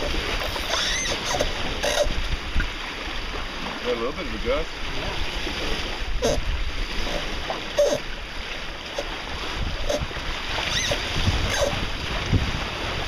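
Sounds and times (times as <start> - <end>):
waves slapping against hull: 0.0 - 13.0
wind buffeting microphone: 0.0 - 13.0.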